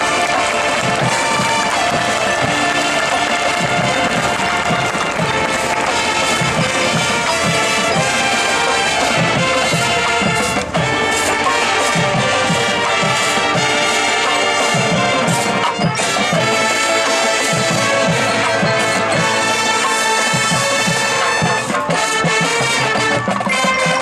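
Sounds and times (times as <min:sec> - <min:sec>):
marching band playing: 0:00.0 - 0:24.0.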